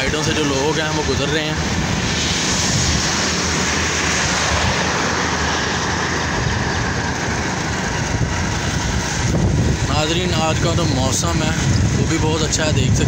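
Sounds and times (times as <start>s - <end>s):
low engine rumble: 0.0s - 13.0s
wind and road noise: 0.0s - 13.0s.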